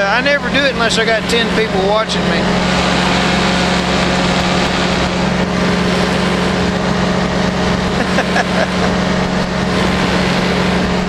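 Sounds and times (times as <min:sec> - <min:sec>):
engine and propeller drone: 0:00.0 - 0:11.0.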